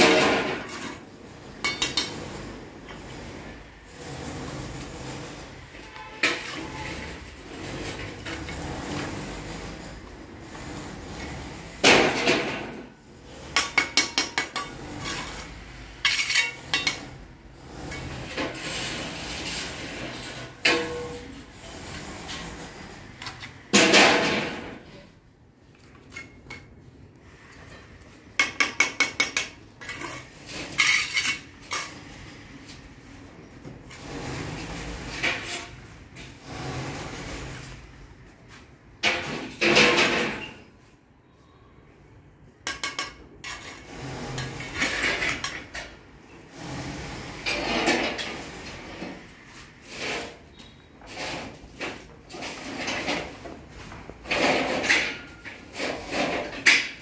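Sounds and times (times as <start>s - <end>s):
trowel scraping mortar: 0.0s - 12.4s, 13.2s - 24.1s, 28.4s - 37.9s, 42.7s - 53.6s, 54.2s - 56.8s.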